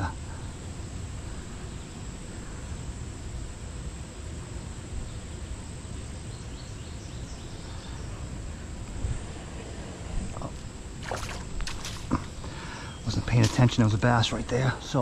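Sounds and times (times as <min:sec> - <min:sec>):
faint insect calls: 0:00.0 - 0:15.0.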